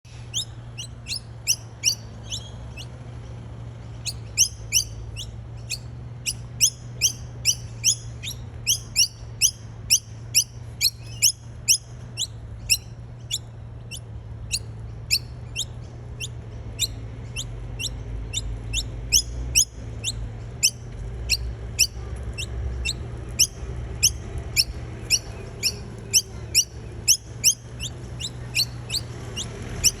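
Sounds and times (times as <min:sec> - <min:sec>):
bird chip calls: 0:00.1 - 0:02.9, 0:03.9 - 0:30.0
steady low hum: 0:00.1 - 0:30.0.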